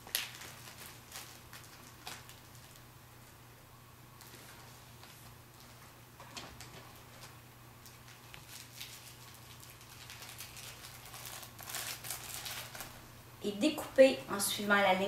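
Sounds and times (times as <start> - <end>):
thin plastic crinkling: 0.0 - 3.4, 4.2 - 13.0.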